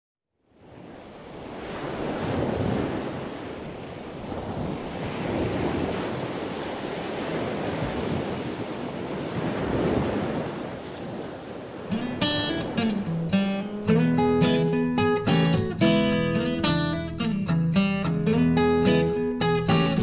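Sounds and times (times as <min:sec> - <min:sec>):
ocean waves washing: 0:00.5 - 0:20.0.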